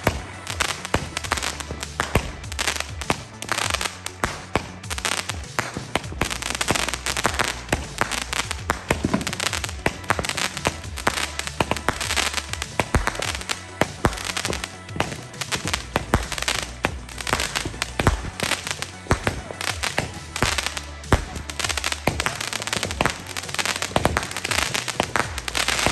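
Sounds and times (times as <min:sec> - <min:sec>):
fireworks crackling and banging: 0:00.0 - 0:25.9.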